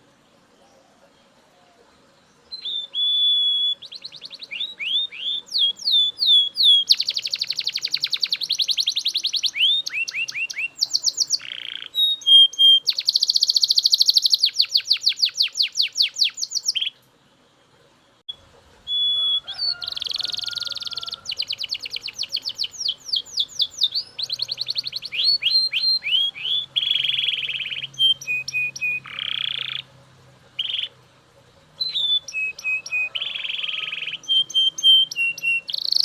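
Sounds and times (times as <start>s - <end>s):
canary singing with trills: 0.0s - 36.0s.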